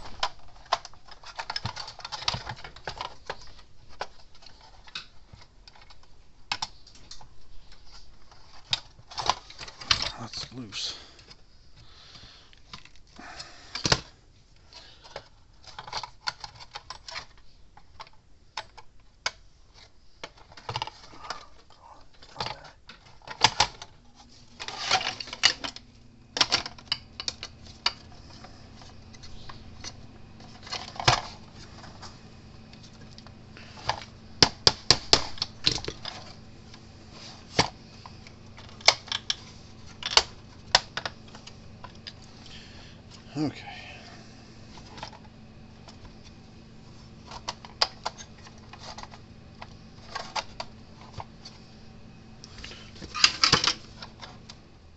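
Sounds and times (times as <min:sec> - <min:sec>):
low steady hum: 0:00.0 - 0:54.9.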